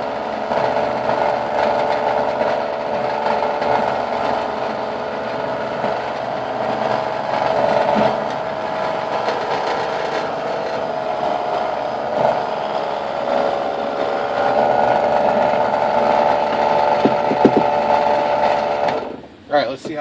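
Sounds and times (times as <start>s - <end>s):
drill bit boring into wood: 0.0s - 19.2s
drill press motor hum: 0.0s - 19.4s.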